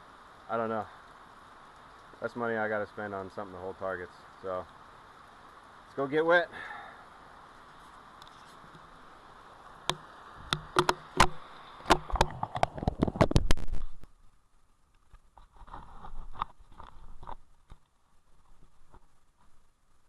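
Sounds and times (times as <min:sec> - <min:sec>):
raindrops ticking near microphone: 0:00.0 - 0:20.0
steady rain: 0:00.0 - 0:20.0.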